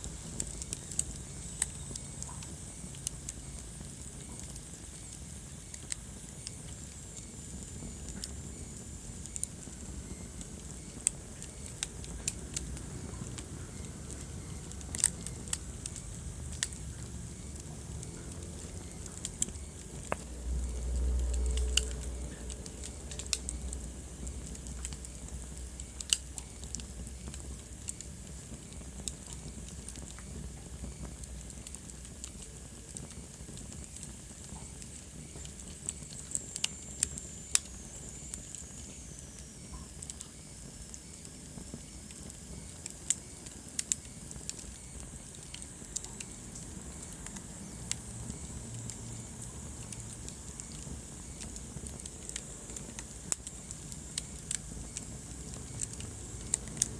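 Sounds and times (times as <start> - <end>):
steady low hiss: 0.0 - 56.9
wood fire crackling: 0.0 - 56.9.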